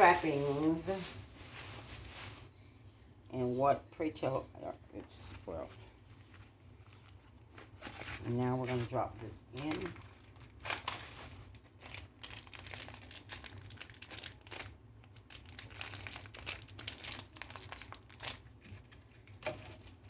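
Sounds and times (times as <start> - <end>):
plastic crinkling and rustling: 0.0 - 2.5, 5.1 - 20.0.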